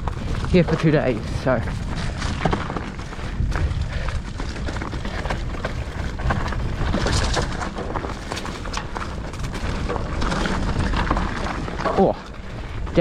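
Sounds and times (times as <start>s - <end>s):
bike clacking and rattling over rocks: 0.0s - 13.0s
tyres on dirt: 0.0s - 13.0s
wind on microphone: 0.0s - 13.0s.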